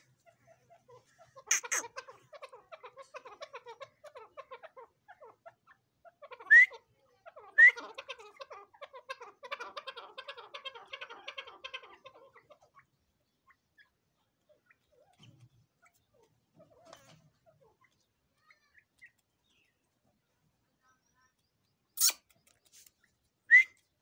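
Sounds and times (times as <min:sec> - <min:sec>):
birds clucking softly: 0:00.0 - 0:24.0.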